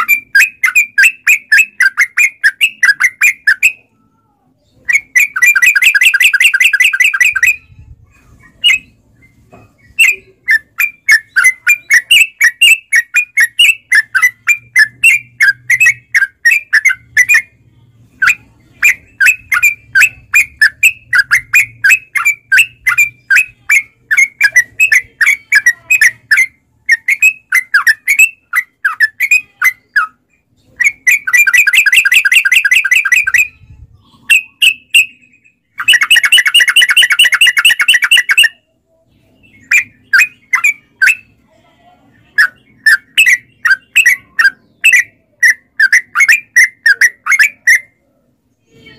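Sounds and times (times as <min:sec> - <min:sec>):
bird calling in sharp chirps: 0:00.0 - 0:03.9, 0:04.8 - 0:07.7, 0:08.5 - 0:17.6, 0:18.2 - 0:38.7, 0:39.3 - 0:41.4, 0:42.4 - 0:48.0.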